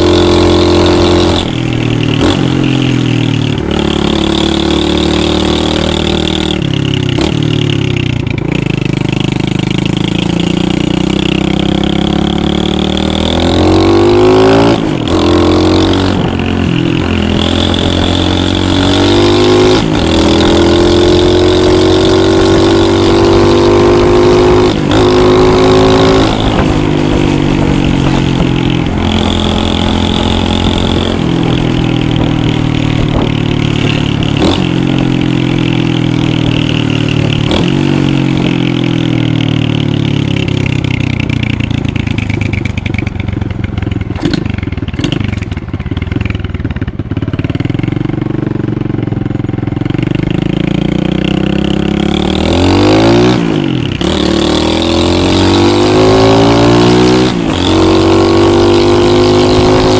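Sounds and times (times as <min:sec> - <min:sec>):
pit bike engine revving: 0:00.0 - 0:41.6, 0:49.7 - 0:59.9.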